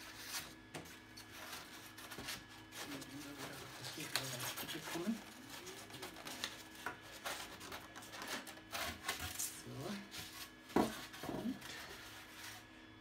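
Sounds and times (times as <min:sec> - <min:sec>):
faint printer hum: 0:00.0 - 0:13.0.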